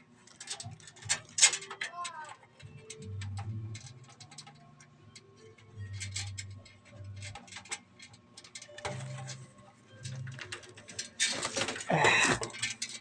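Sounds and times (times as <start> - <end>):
plastic connectors clicking: 0.3 - 9.4, 10.0 - 13.0.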